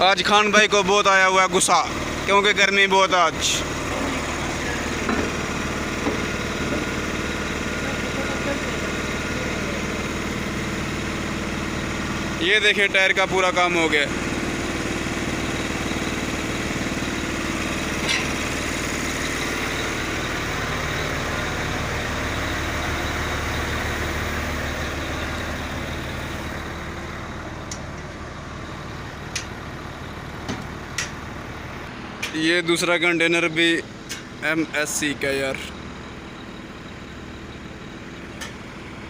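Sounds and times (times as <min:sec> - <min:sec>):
truck diesel engine idling: 0:00.0 - 0:39.0.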